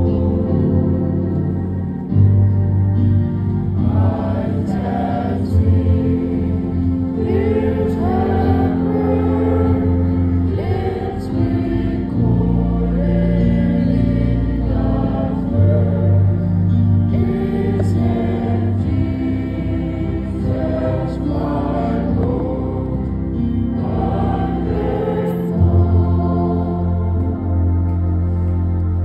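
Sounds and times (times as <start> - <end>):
choir singing: 0.0 - 29.0
held low chords: 0.0 - 29.0.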